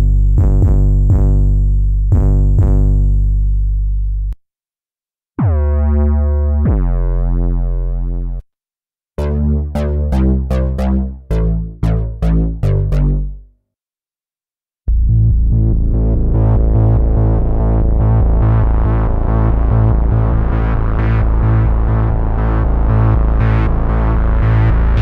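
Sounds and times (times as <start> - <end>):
synthesizer deep bass notes: 0.0 - 4.4, 5.4 - 8.4, 9.2 - 13.5, 14.9 - 25.0.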